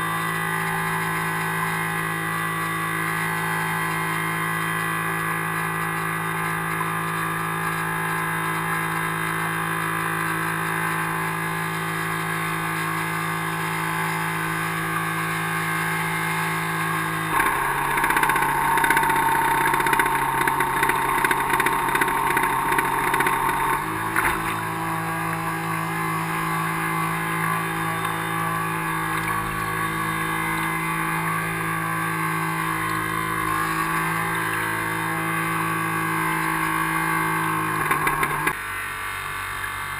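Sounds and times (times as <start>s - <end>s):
electric motors running: 0.2s - 39.9s.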